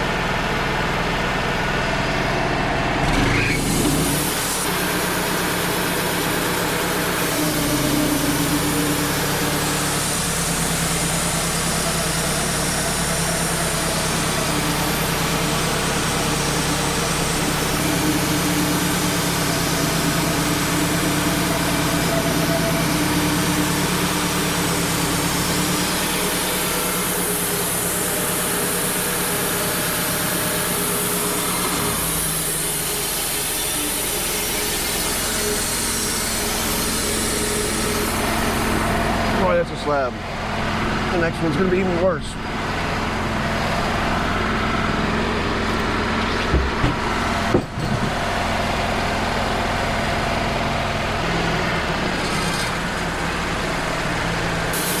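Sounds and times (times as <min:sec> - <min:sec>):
band sawmill sawing a log: 0:02.5 - 0:55.0.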